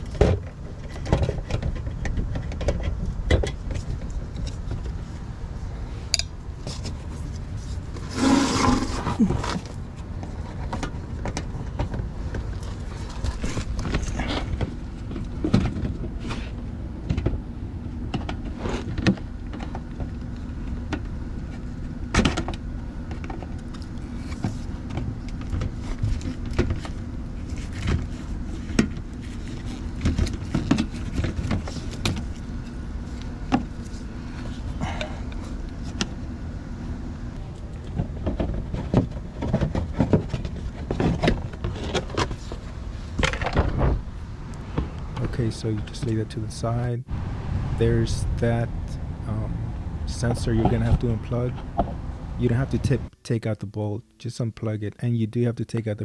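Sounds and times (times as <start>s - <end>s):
steady low hum: 0.0s - 55.2s.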